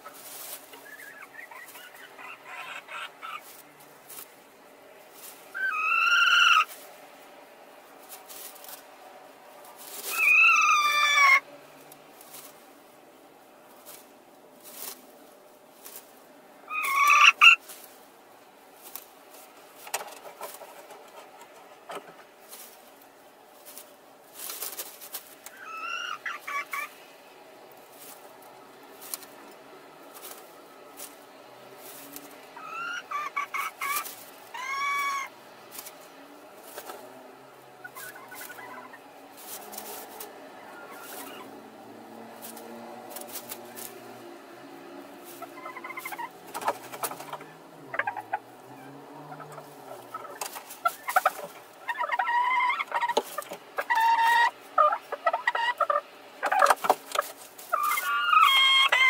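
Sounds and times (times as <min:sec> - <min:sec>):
dry straw rustling: 0:00.0 - 0:59.0
hens clucking and squawking: 0:00.0 - 0:59.0.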